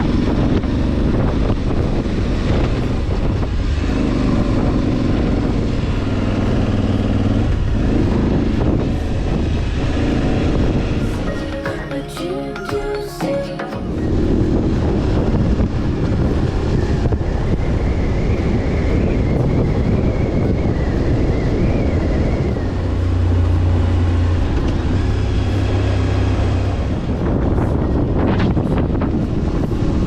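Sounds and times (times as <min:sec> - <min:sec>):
motorcycle engine running: 0:00.0 - 0:11.3, 0:13.9 - 0:30.0
wind on microphone: 0:00.0 - 0:11.6, 0:13.8 - 0:30.0.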